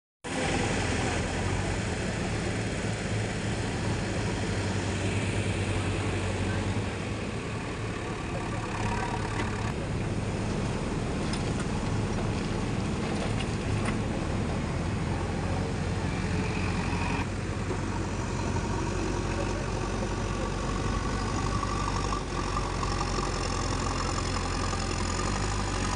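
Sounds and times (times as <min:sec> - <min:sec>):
backhoe diesel engine running: 0:00.3 - 0:25.9.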